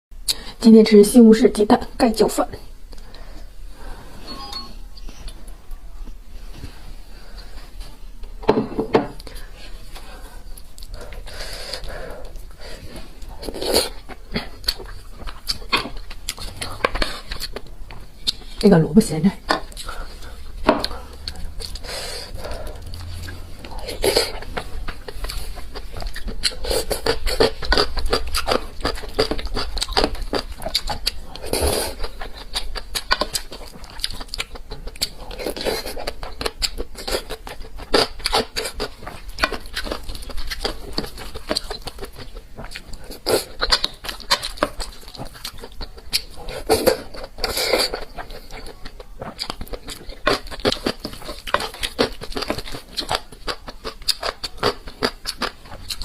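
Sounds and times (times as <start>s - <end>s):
person chewing and lip-smacking: 9.2s - 18.7s, 19.5s - 56.0s.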